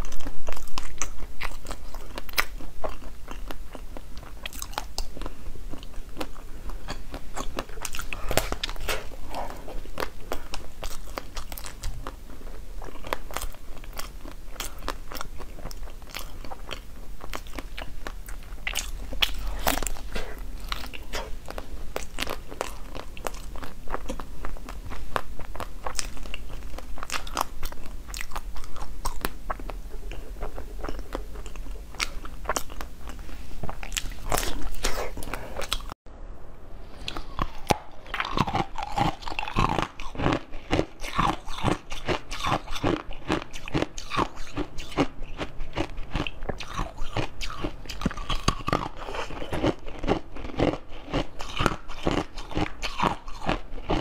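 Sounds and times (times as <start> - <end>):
second person chewing: 0.0 - 12.2, 12.8 - 36.0, 37.0 - 54.0
person chewing hard food: 0.0 - 36.0, 37.0 - 54.0.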